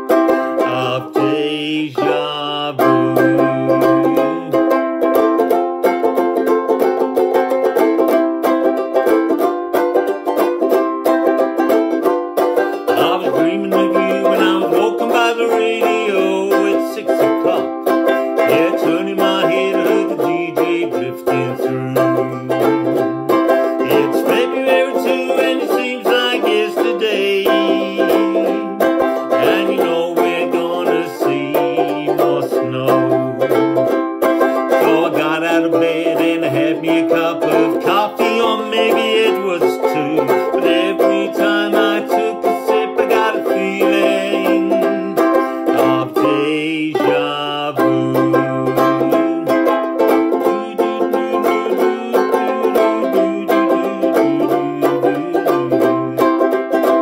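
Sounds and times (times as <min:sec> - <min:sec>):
banjo ukulele strumming chords: 0:00.0 - 0:57.0.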